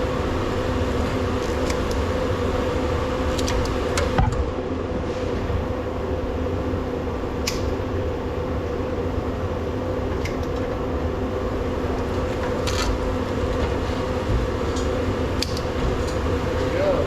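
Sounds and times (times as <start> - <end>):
heater fan drone: 0.0 - 17.0.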